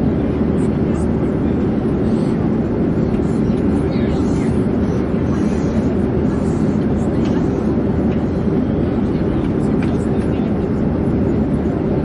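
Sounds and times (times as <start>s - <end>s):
airplane drone in flight: 0.0s - 12.0s.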